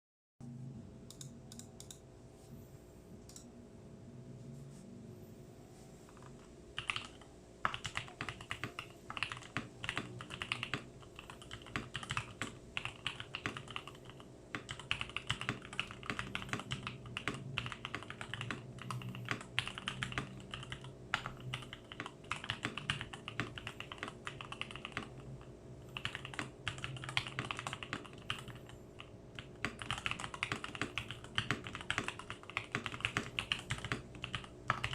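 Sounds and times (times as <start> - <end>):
low steady hum: 0.4 - 34.9
mechanical keyboard typing: 6.1 - 34.9.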